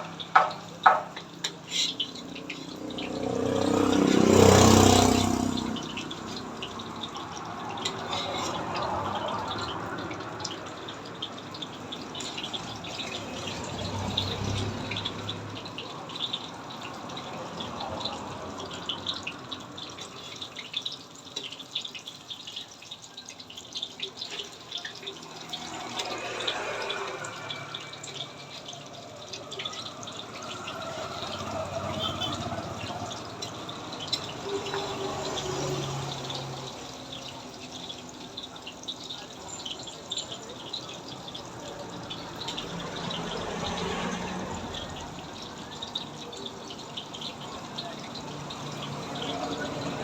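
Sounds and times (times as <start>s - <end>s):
food frying in hot oil: 0.0s - 50.0s.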